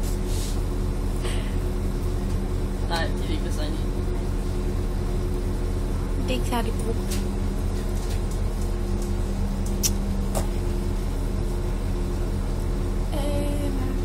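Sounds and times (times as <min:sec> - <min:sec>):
low hum in train carriage: 0:00.0 - 0:14.0.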